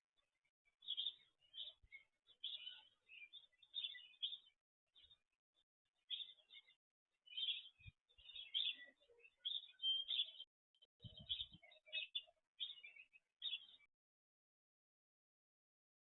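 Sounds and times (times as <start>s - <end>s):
small birds chirping: 0.2s - 13.9s.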